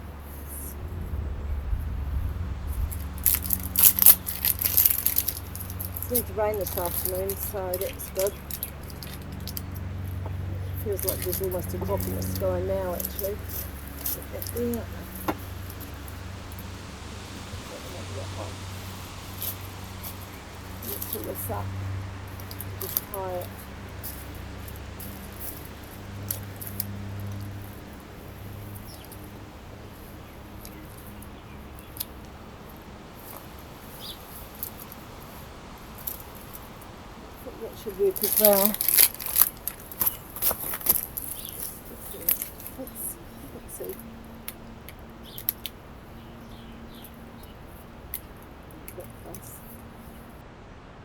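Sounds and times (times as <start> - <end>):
small birds chirping: 0.0 - 50.4
low steady hum: 0.0 - 51.0
handling noises: 2.9 - 28.0, 30.0 - 45.8
plastic netting rustling and clicking: 2.9 - 45.9.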